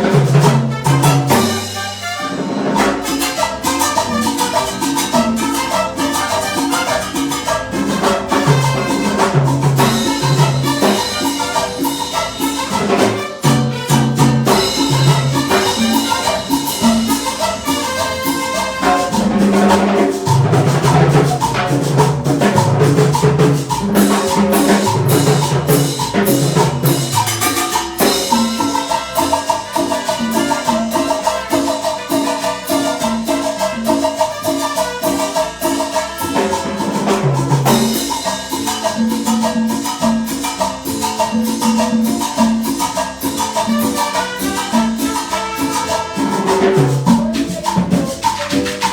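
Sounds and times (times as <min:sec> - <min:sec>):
latin dance band playing: 0:00.0 - 0:48.9
steady percussion beat: 0:00.0 - 0:48.9.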